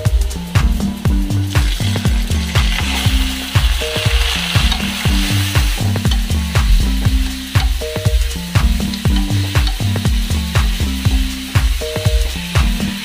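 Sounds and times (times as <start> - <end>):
background music with bass line: 0.0 - 13.0
chicken frying in hot oil: 1.2 - 13.0.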